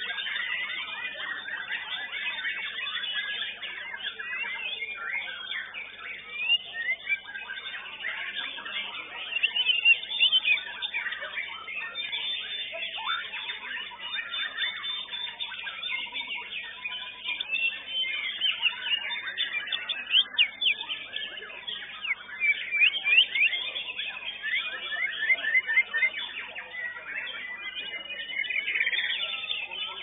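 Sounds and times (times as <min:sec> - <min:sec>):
songbird whistling and chirping: 0:00.0 - 0:30.0.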